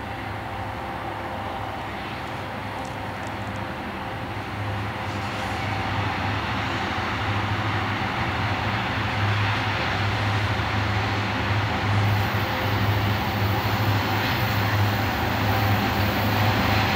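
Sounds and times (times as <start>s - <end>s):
diesel locomotive engine rumble: 0.0s - 16.9s.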